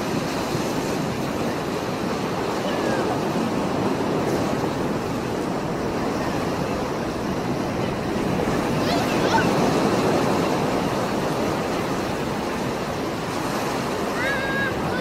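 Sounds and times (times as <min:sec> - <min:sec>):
surf breaking on rocky shore: 0:00.0 - 0:15.0.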